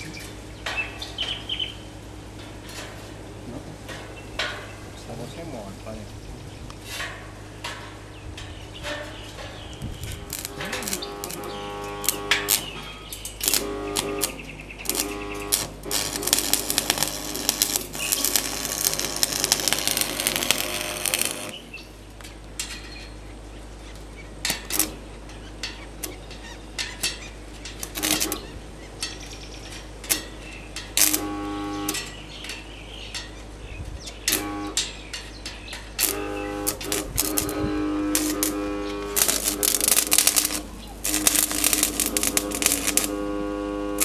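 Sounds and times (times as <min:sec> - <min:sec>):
steady low hum: 0:00.0 - 0:44.0
welding arc crackling: 0:06.7 - 0:22.9, 0:23.6 - 0:33.4, 0:34.0 - 0:44.0.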